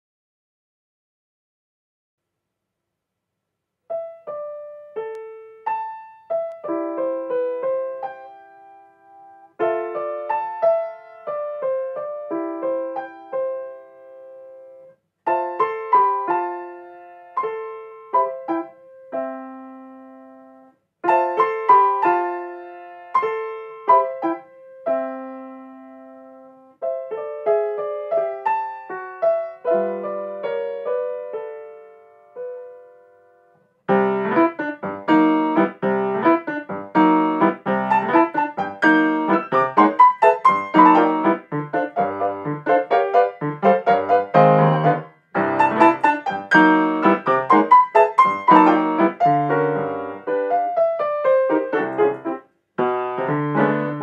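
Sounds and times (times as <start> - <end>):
grand piano duet: 3.9 - 54.0.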